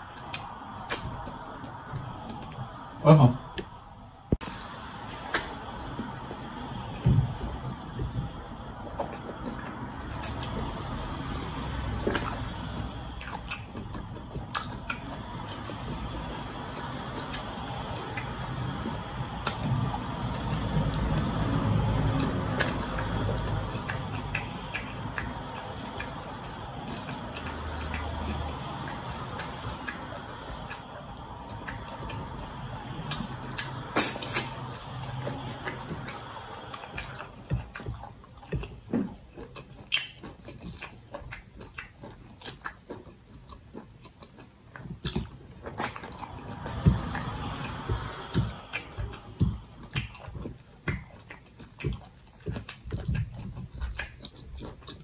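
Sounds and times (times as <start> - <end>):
chewing and lip smacking: 0.0 - 2.8, 4.4 - 55.0
fingers squelching through food: 5.1 - 55.0.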